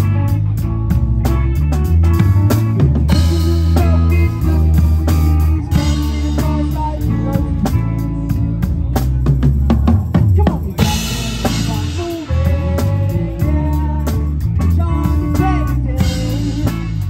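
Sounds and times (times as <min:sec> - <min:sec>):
live rock band playing: 0:00.0 - 0:17.0
drum fill: 0:01.0 - 0:17.0.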